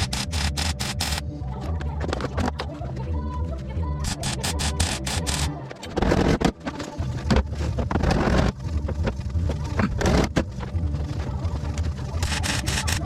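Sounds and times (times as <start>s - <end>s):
background music with heavy bass: 0.0s - 13.0s.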